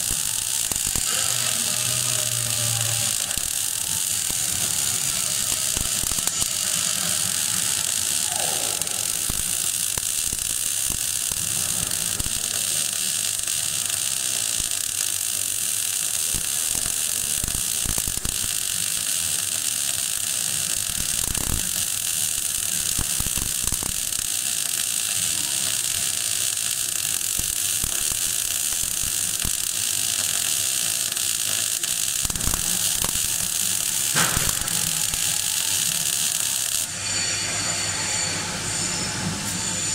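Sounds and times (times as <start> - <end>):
welding arc crackling hiss: 0.0 - 37.1.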